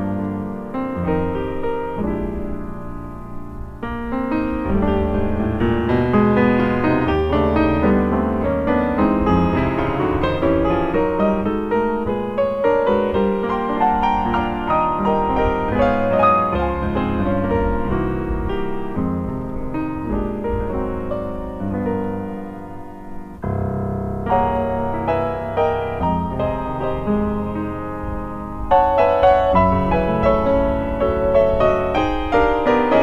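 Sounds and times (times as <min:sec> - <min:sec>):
solo piano playing: 0:00.0 - 0:33.0.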